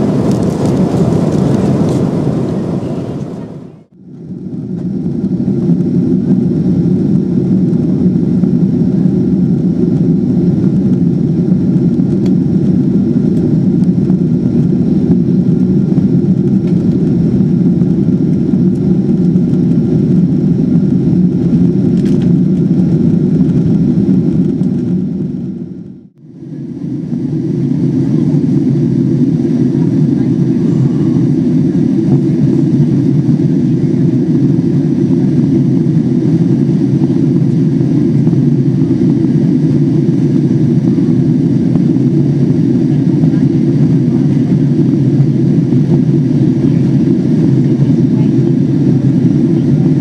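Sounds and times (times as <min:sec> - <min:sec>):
airliner engine and airflow drone: 0:00.0 - 0:50.0.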